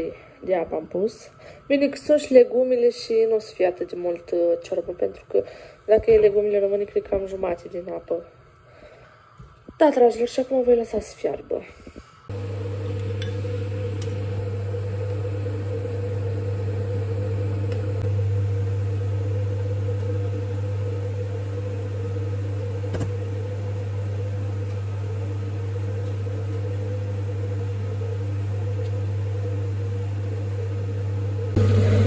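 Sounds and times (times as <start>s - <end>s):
kitchen fan humming: 0.0s - 32.0s.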